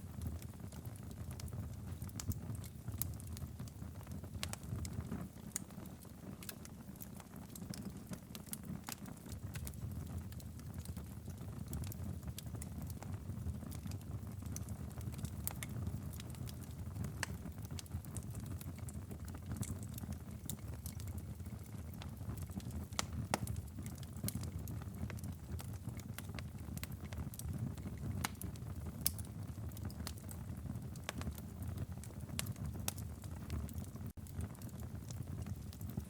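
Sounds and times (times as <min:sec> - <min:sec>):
fire popping: 0:00.0 - 0:36.0
wood fire crackling: 0:00.0 - 0:36.0.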